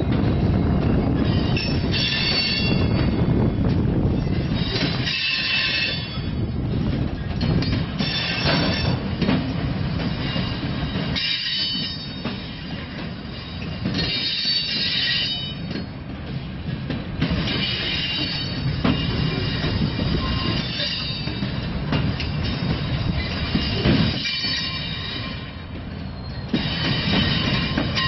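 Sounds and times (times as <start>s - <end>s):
train wheels rumbling on rail: 0.0s - 28.0s
wheels clicking over rail joints: 0.1s - 28.0s.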